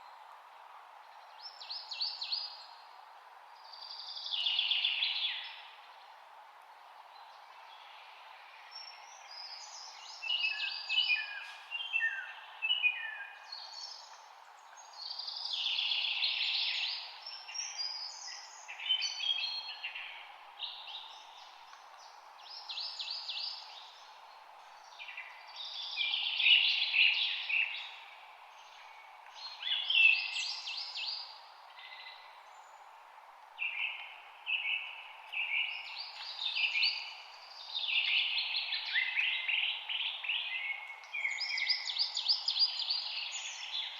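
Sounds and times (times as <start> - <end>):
faint background hiss: 0.0 - 43.9
songbirds trilling and chirping: 3.6 - 43.9.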